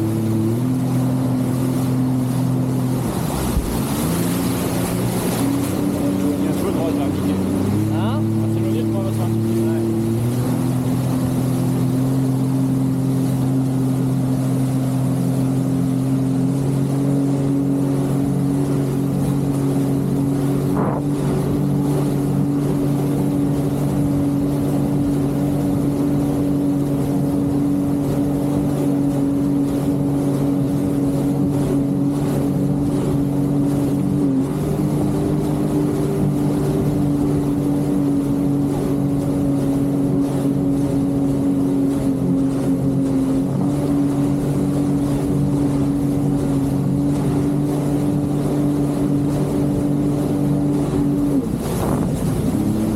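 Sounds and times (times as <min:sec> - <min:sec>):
jet ski engine running: 0:00.0 - 0:52.9
water and wind noise: 0:00.0 - 0:52.9.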